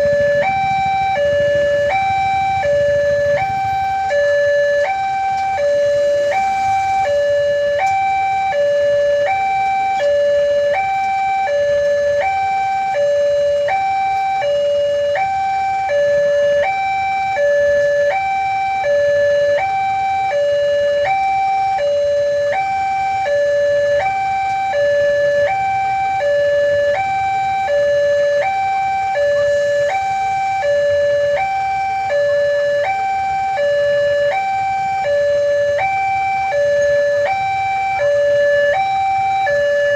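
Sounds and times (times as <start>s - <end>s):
level-crossing two-tone alarm: 0.0s - 39.9s.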